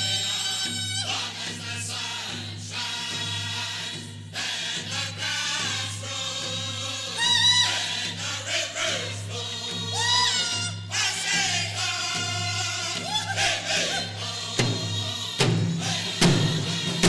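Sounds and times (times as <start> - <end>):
male voices singing in unison: 0.0 - 17.0
steady drumbeat: 0.0 - 17.0.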